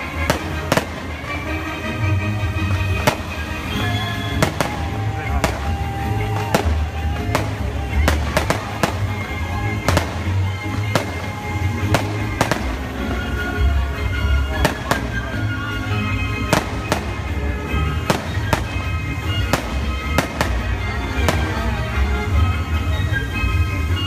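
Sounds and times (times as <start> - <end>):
fireworks bursting: 0.0 - 24.0
music with heavy bass: 0.0 - 24.0.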